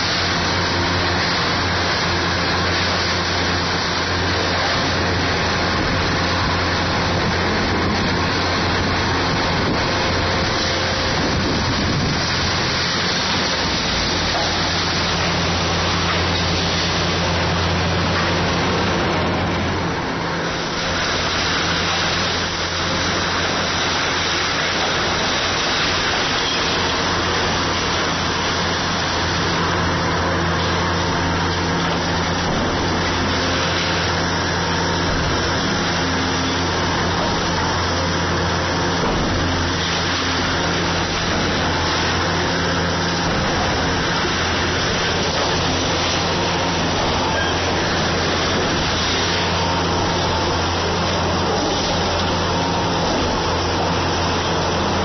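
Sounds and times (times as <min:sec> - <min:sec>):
excavator diesel engine running: 0:00.0 - 0:55.0
machine work noise: 0:00.0 - 0:55.0.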